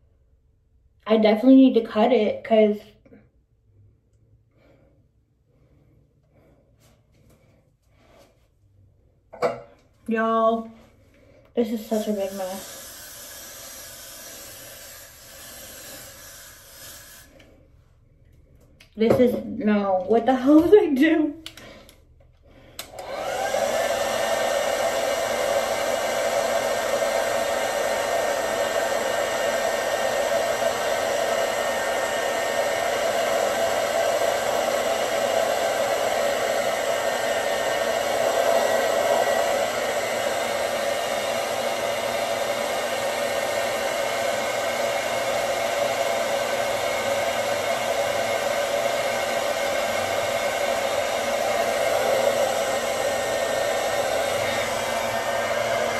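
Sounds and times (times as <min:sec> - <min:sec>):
hair dryer running: 0:09.2 - 0:17.6, 0:18.3 - 0:55.9.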